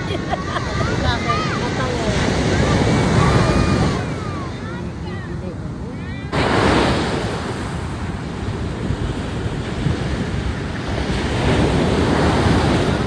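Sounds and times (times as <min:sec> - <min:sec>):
waves breaking on beach: 0:00.0 - 0:13.0
wind rumbling on microphone: 0:00.0 - 0:13.0.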